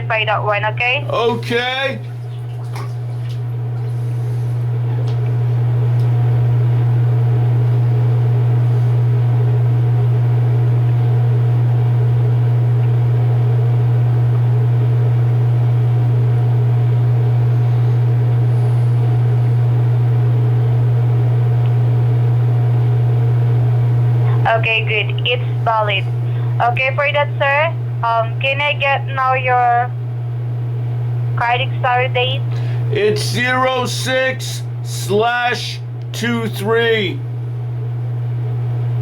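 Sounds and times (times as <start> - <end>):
loud steady low hum: 0.0 - 39.0.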